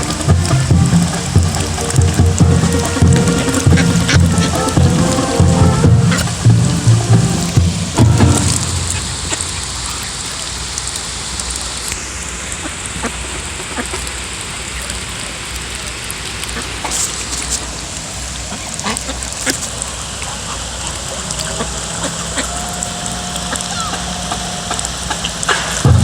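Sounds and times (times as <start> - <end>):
ducks dabbling in water: 0.0 - 26.0.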